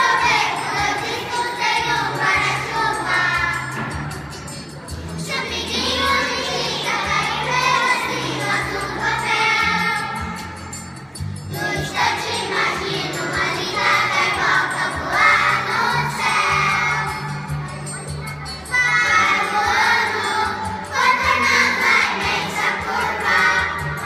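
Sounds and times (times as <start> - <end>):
children singing together: 0.0 - 17.6, 18.7 - 24.0
musical accompaniment: 0.0 - 24.0.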